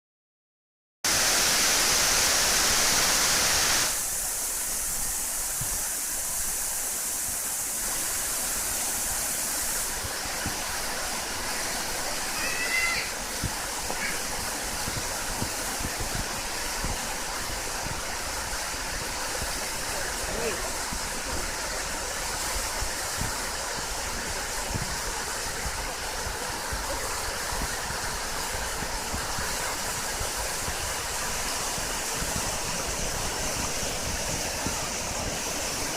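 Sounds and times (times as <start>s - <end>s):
waterfall rushing: 1.1s - 35.9s.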